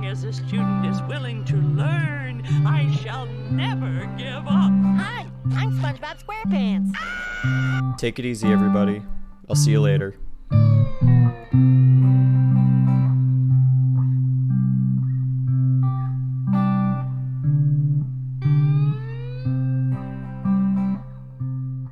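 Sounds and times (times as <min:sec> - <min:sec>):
held low guitar note: 0:00.0 - 0:07.0, 0:07.6 - 0:21.9
plucked guitar melody: 0:00.0 - 0:21.9.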